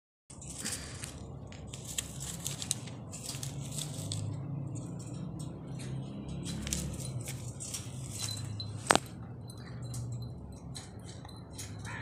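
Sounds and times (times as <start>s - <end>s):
clicks and rattles of bird cage: 1.6s - 12.0s.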